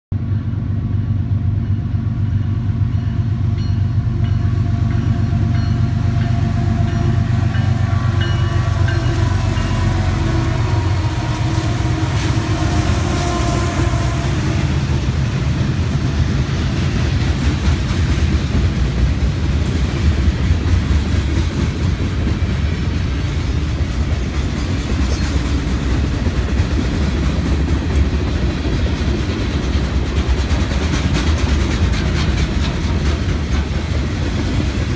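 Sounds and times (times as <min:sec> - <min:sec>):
diesel locomotive engine drone: 0:00.1 - 0:34.9
freight cars rumbling on rails: 0:00.2 - 0:34.9.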